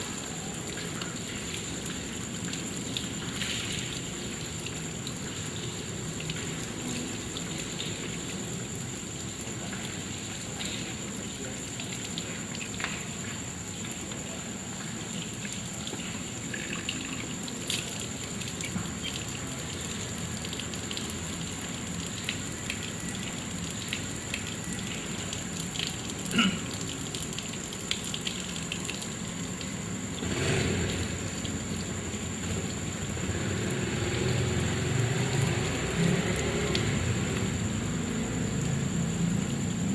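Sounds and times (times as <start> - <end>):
tap water splashing on hands: 0.0 - 39.7.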